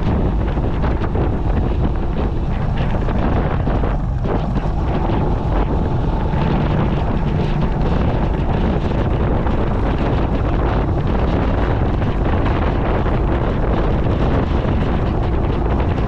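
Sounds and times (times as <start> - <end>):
motorcycle ride: 0.0 - 16.0
wind rushing over microphone: 0.0 - 16.0.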